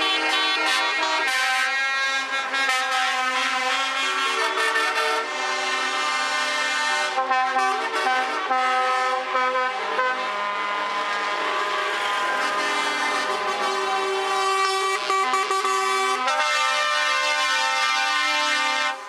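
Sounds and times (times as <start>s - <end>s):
truck air horns blowing: 0.0s - 19.0s.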